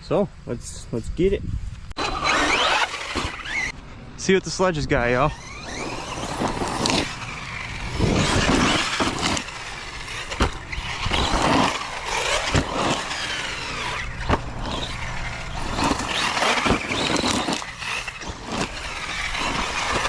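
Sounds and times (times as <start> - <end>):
electric motor whining: 2.0 - 3.8, 5.0 - 20.0.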